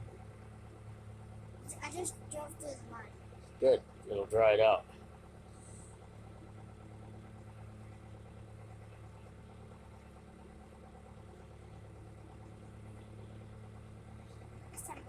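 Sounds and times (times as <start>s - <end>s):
backhoe engine idling: 0.0s - 15.0s.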